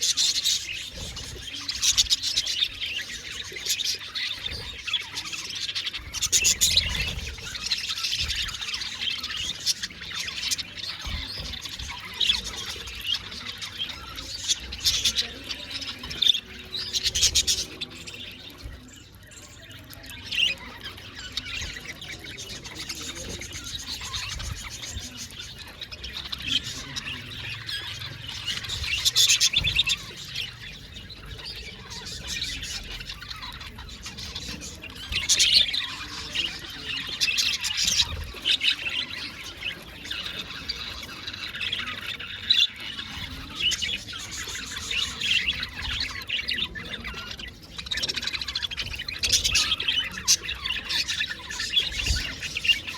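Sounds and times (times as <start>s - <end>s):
budgerigars chirping and chattering: 0.0s - 52.9s.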